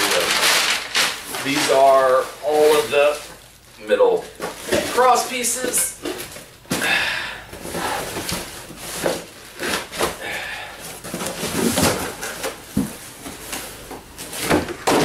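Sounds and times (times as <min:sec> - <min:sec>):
cardboard rustling and scraping: 0:00.0 - 0:06.5, 0:07.5 - 0:10.2, 0:10.8 - 0:15.0.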